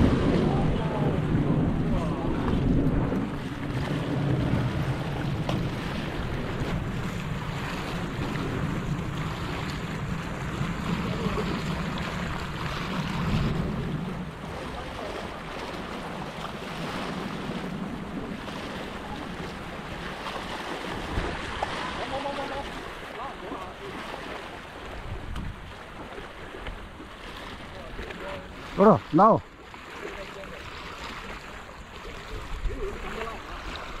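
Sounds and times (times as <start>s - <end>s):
small waves splashing over rock: 0.0s - 34.0s
wind rumbling on microphone: 0.0s - 34.0s.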